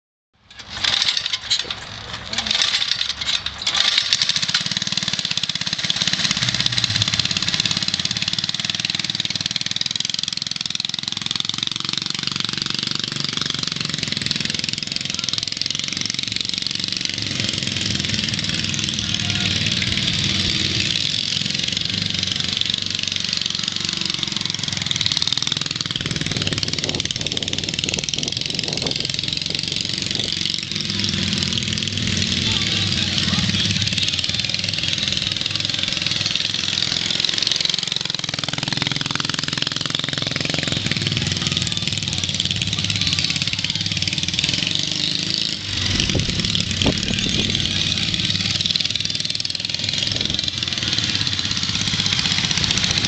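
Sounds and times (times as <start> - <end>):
mini bike engine running: 0.4 - 53.0.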